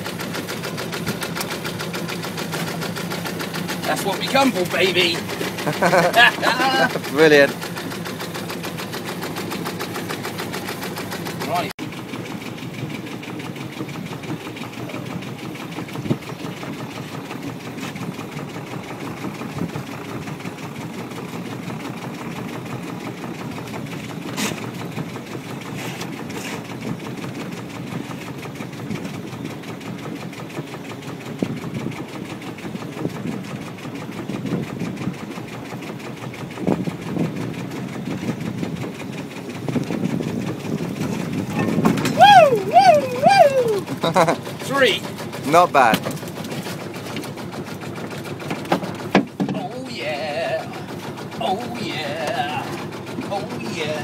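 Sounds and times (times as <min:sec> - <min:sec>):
pot hauler winding line: 0:00.0 - 0:31.2, 0:35.0 - 0:54.0
boat engine running: 0:00.0 - 0:54.0.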